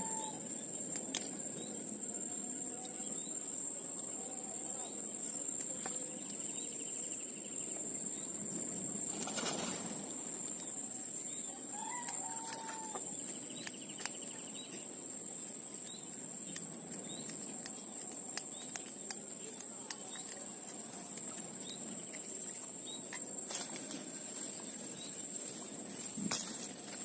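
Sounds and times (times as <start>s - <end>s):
bird calls and trills: 0.0s - 8.5s, 10.6s - 27.0s
insect drone: 0.0s - 27.0s.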